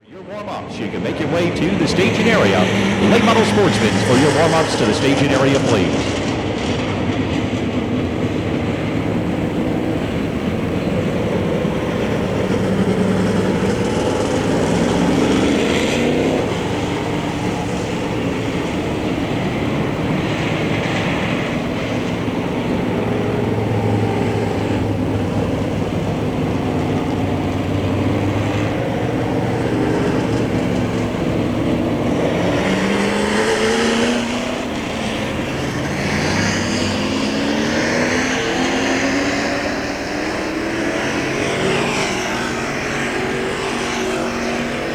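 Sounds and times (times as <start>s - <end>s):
race car engines passing: 0.0s - 44.9s.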